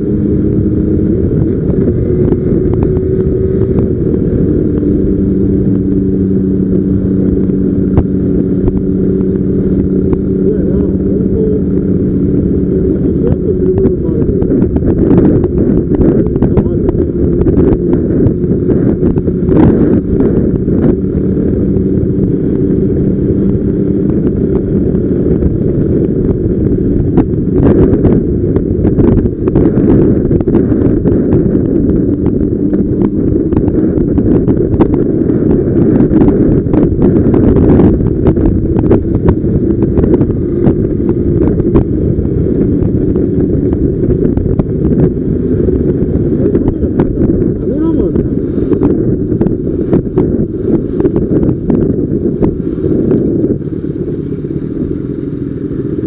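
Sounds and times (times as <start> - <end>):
motorcycle engine hum: 0.0 - 56.0
wind rumble on microphone: 0.0 - 56.0.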